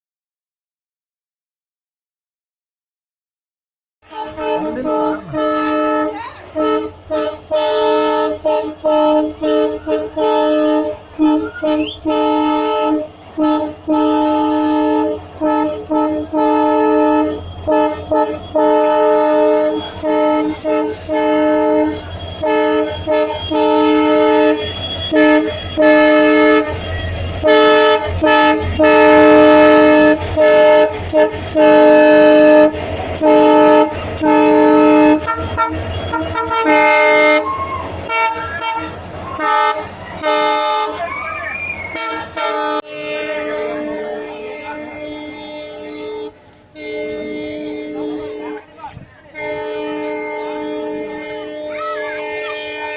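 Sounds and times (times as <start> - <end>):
locomotive horn blasts: 4.0 - 41.1, 41.8 - 52.9.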